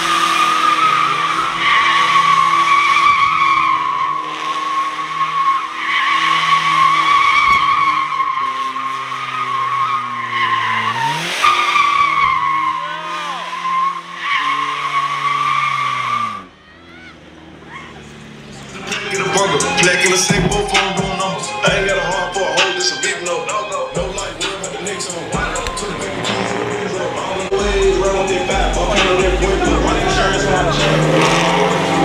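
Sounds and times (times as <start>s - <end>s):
car engine revving high: 0.0s - 16.6s, 17.2s - 32.0s
tires squealing: 0.0s - 32.0s.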